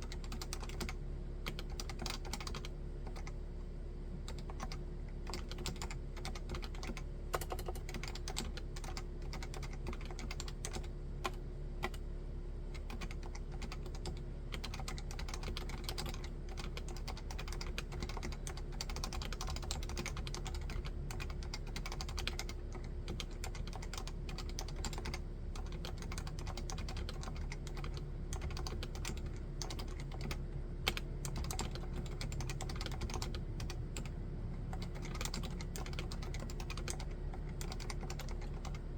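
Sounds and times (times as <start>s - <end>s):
keyboard typing: 0.0s - 3.4s, 4.2s - 12.0s, 12.8s - 38.8s.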